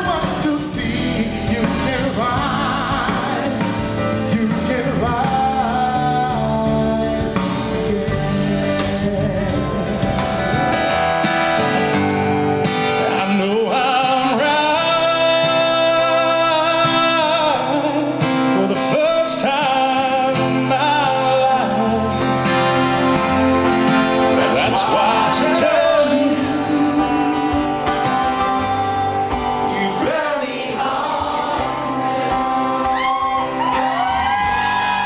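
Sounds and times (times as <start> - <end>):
man singing: 0.0 - 10.6, 12.8 - 30.5
acoustic guitar strumming: 0.0 - 35.0
band playing: 0.0 - 35.0.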